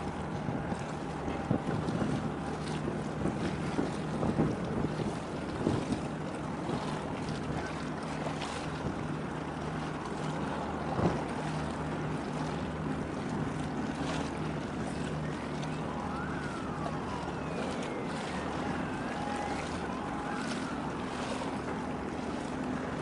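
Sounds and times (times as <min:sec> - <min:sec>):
boat engine hum: 0:00.0 - 0:23.0
water noise: 0:00.0 - 0:23.0
wind: 0:00.0 - 0:23.0.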